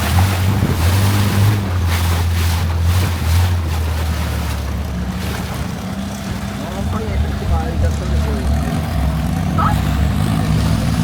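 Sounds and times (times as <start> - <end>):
wind and water hiss: 0.0 - 9.4
boat engine humming: 0.0 - 11.0.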